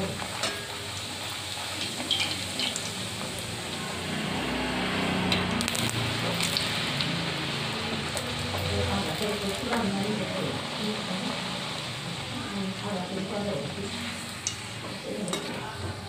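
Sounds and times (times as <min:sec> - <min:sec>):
bread sizzling in hot oil: 0:00.0 - 0:15.4.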